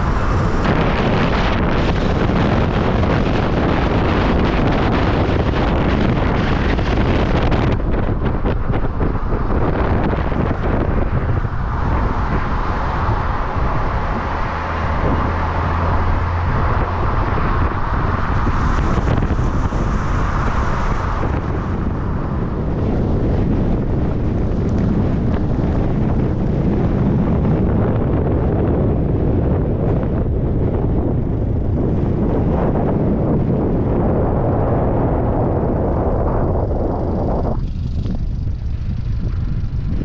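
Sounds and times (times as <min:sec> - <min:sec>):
road noise: 0:00.0 - 0:40.0
vehicle engine: 0:00.0 - 0:40.0
wind buffeting microphone: 0:00.0 - 0:40.0.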